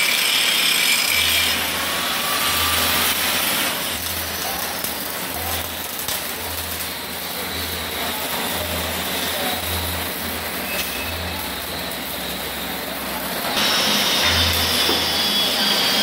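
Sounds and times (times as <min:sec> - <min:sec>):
arc welding hiss and crackle: 0:00.0 - 0:16.0
welding machines noise: 0:00.0 - 0:16.0.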